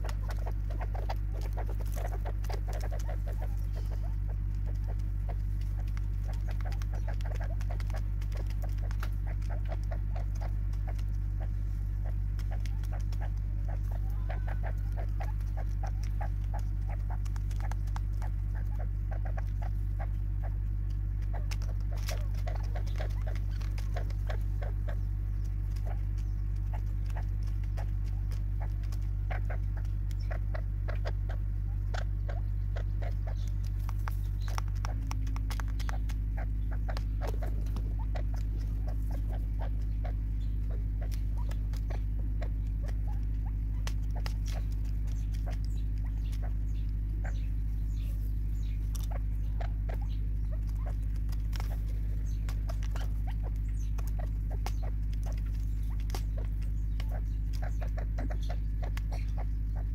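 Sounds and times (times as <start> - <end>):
beaks tapping plastic feeder: 0.0 - 59.9
steady low hum: 0.0 - 59.9.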